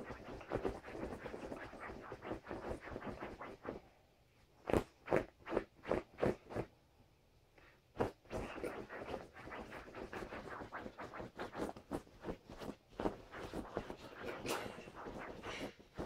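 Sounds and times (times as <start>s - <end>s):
paws scratching fabric duvet: 0.0s - 3.8s, 4.7s - 6.7s, 8.0s - 16.0s.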